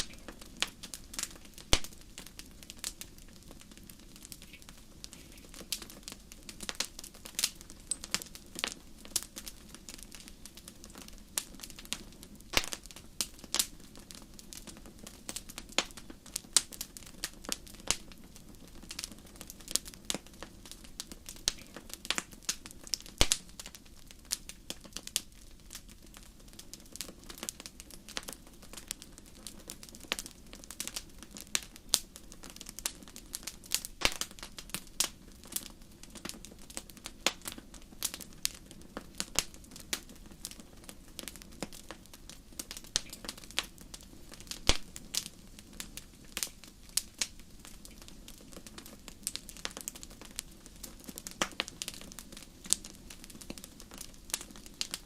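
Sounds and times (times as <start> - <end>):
fire pops and snaps: 0.0 - 55.0
low hiss of flames: 0.0 - 55.0
wood fire crackling: 0.0 - 55.0.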